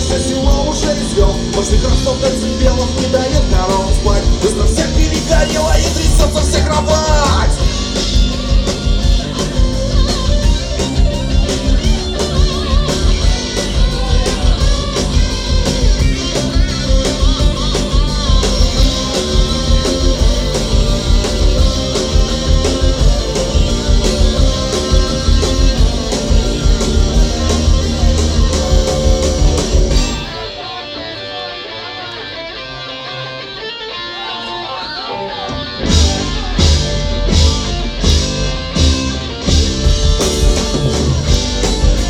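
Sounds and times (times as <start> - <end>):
electric guitar: 0.0 - 42.0
rock band playing: 0.0 - 42.0.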